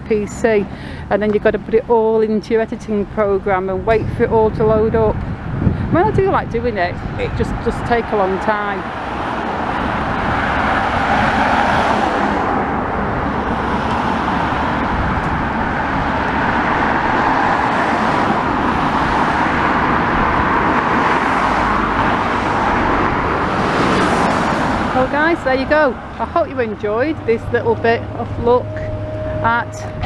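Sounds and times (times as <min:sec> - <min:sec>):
cars driving past: 0:05.1 - 0:30.0.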